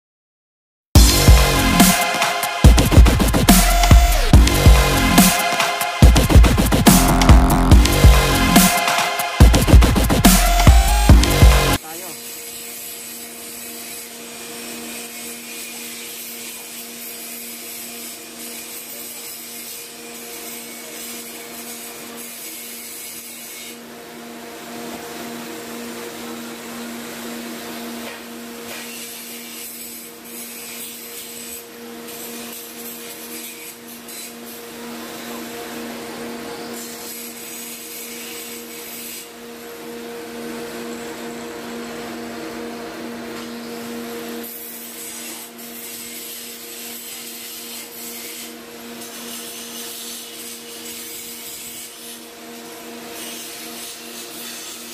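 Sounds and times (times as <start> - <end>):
power grinder grinding: 1.0 - 54.9.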